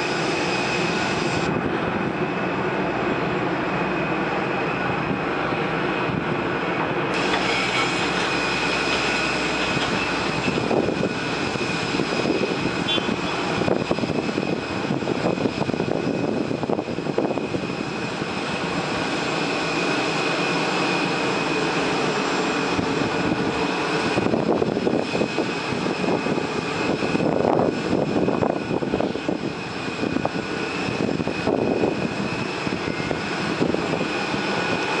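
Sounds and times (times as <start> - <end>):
jet engine rushing: 0.0 - 35.0.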